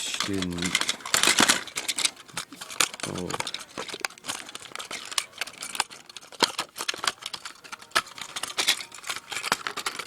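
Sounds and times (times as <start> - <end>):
toy models clicking and rattling: 0.0 - 10.0.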